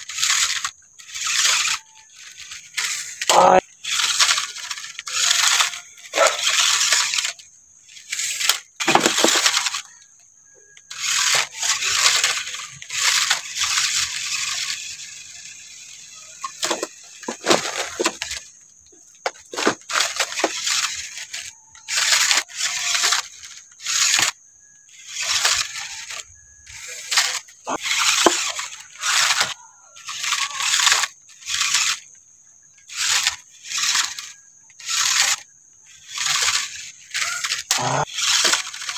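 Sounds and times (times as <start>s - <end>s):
toy car motor running: 0.0s - 38.9s
tyres scrabbling on loose dirt: 0.0s - 38.9s.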